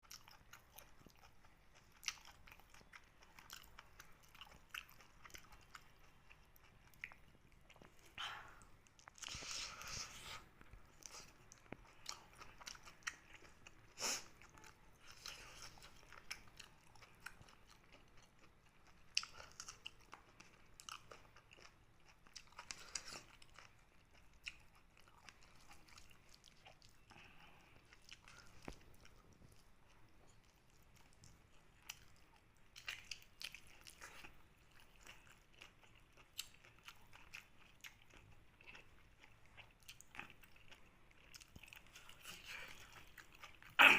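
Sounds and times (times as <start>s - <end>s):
person chewing: 0.0s - 43.9s.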